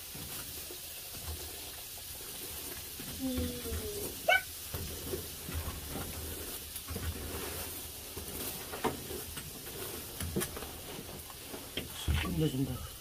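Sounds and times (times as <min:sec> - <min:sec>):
charcoal crackles and pops: 0:00.0 - 0:13.0
meat sizzling: 0:00.0 - 0:13.0.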